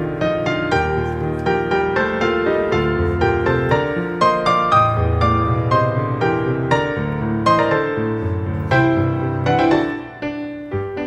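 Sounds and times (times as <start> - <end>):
piano melody with bass line: 0.0 - 11.0.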